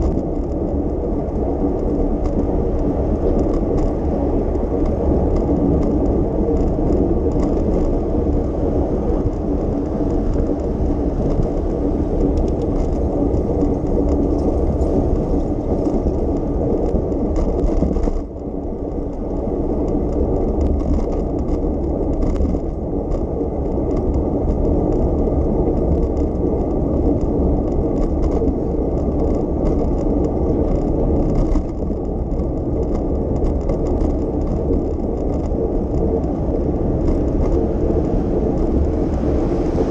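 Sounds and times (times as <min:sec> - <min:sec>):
bicycle tyres rumbling: 0:00.0 - 0:39.9.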